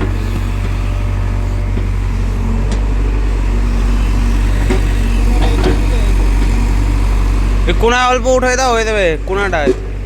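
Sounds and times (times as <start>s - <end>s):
diesel engine low drone: 0.0s - 10.0s.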